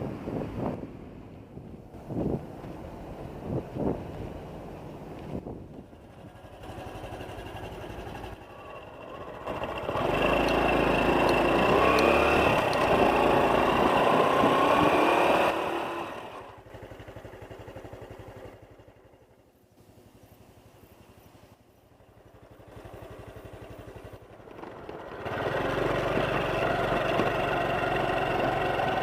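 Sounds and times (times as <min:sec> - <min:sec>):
motorcycle engine running: 0:00.3 - 0:29.0.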